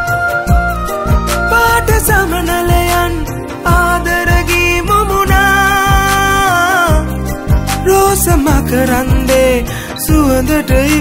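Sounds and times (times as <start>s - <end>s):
pop song with bass and drums: 0.0s - 11.0s.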